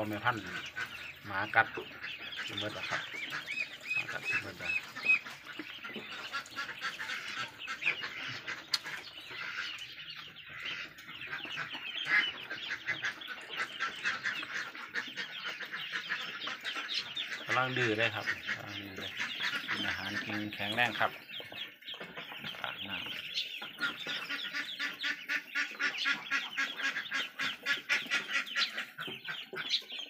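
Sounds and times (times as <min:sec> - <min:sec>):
ducklings peeping: 0:00.0 - 0:30.0.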